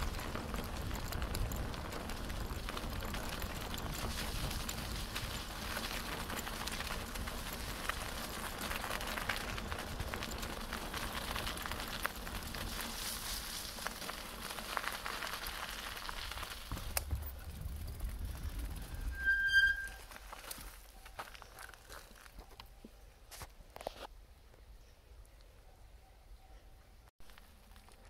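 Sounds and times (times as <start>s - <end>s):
bicycle tyres on gravel: 0.0s - 24.1s, 27.2s - 28.0s.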